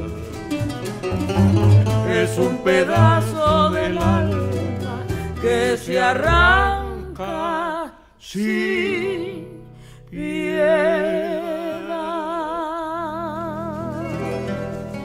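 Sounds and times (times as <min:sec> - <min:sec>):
soft musical accompaniment: 0:00.0 - 0:07.7, 0:08.4 - 0:15.0
person singing with wide vibrato: 0:01.8 - 0:15.0.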